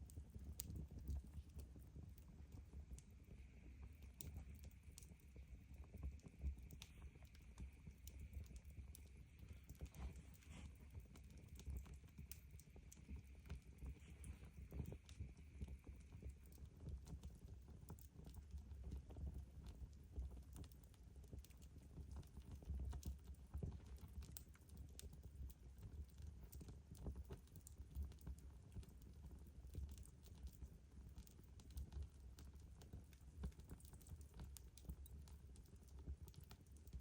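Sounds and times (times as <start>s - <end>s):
fire snaps and pops: 0.0s - 37.0s
low fire rumble: 0.0s - 37.0s.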